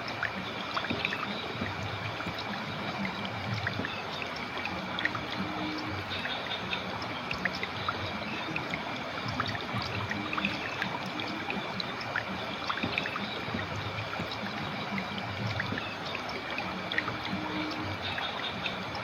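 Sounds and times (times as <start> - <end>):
river flowing over stones: 0.0 - 19.0
water bubbling and trickling: 0.0 - 19.0.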